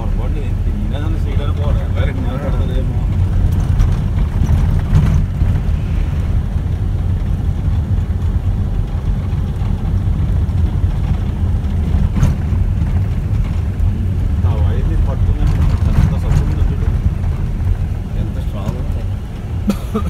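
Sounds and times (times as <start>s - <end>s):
vehicle road and engine rumble: 0.0s - 20.0s.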